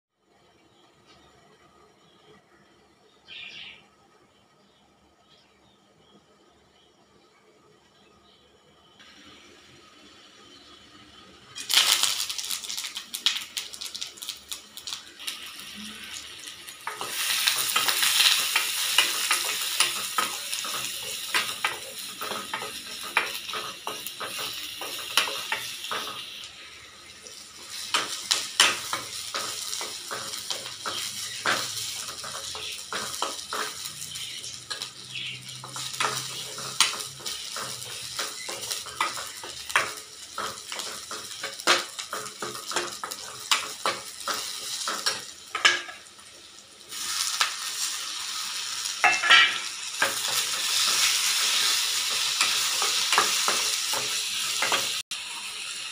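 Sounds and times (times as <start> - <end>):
oil sizzling in a pan: 8.8 - 55.9.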